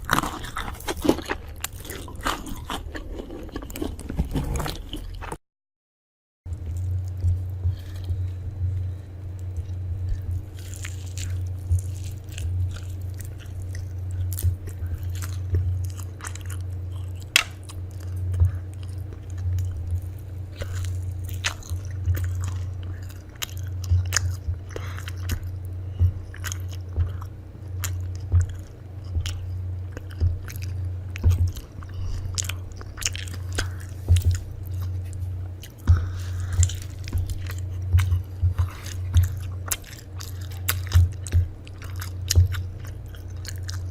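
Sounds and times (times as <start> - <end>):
person chewing crunchy food: 0.0 - 5.4, 6.5 - 43.9
steady low hum: 0.0 - 5.4, 6.5 - 43.9.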